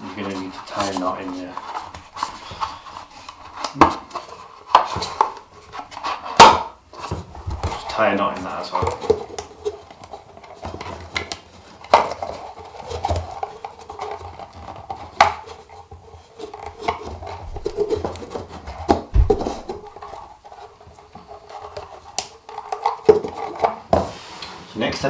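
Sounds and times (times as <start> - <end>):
paper cup and balloon handling: 0.0 - 24.7.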